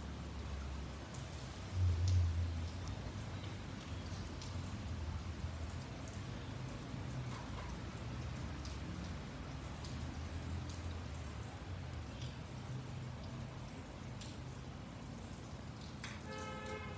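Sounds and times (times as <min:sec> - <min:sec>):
light rain falling: 0:00.0 - 0:16.9.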